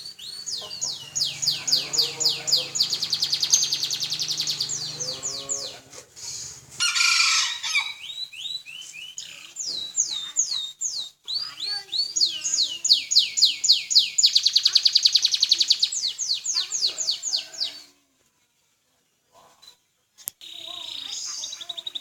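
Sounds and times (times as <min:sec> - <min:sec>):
canary singing: 0:00.0 - 0:17.9, 0:20.4 - 0:22.0.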